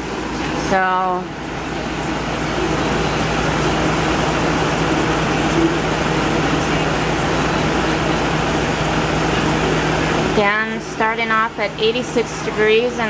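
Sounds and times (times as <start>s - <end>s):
fan air rushing: 0.0s - 13.0s
low compressor hum: 0.0s - 13.0s.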